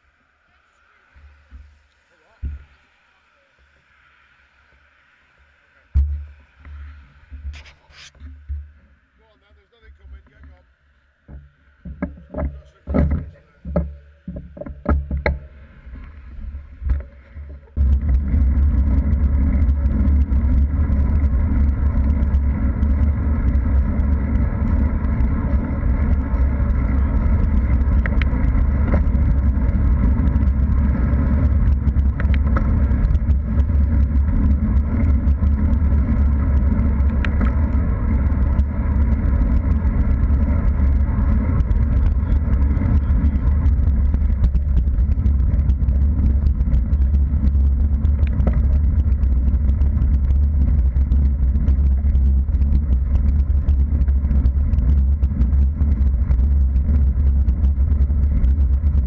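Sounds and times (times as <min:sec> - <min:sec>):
bike knocks and clatters: 0:06.0 - 0:08.9, 0:11.2 - 0:15.6, 0:16.8 - 0:59.0
wind rumble on microphone: 0:11.3 - 0:59.0.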